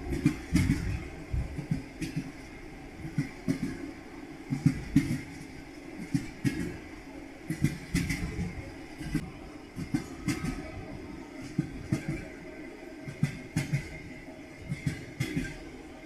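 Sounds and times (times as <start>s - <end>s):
train wheels clattering over rails: 0.0s - 16.0s.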